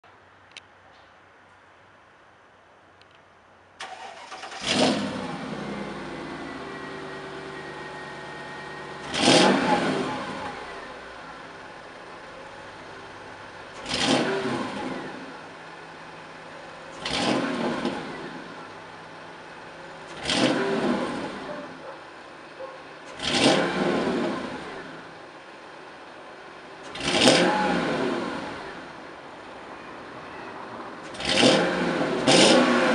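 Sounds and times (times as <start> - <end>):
car engine idling and revving: 3.8 - 32.9.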